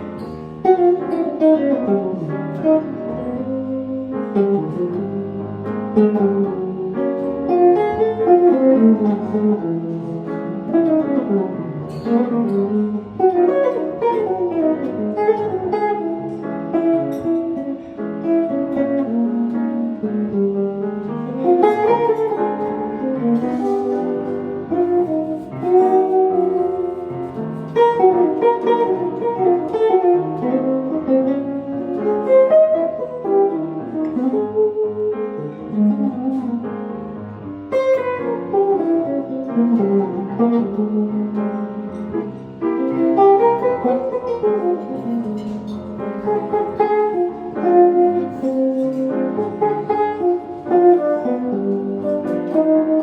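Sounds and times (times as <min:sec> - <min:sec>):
jazz guitar: 0:00.0 - 0:53.0
jazz piano: 0:00.0 - 0:53.0.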